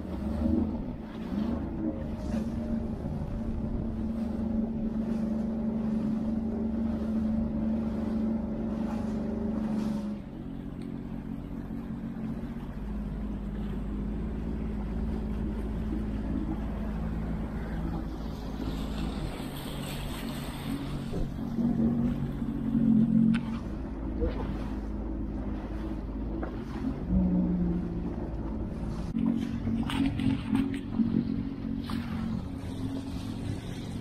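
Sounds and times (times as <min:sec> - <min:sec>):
jet ski engine running: 0:00.0 - 0:34.0.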